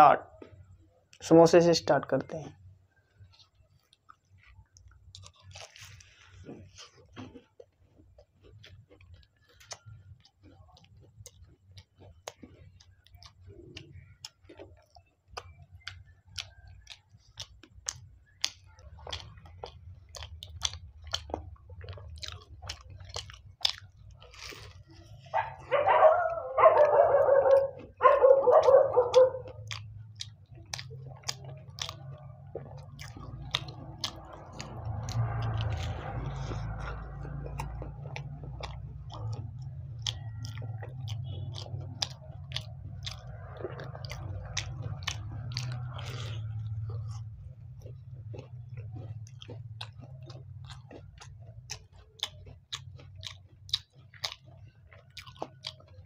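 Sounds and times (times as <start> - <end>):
chewing with sharp clicks: 0.0 - 56.0
crunching pastry bites: 0.0 - 56.0.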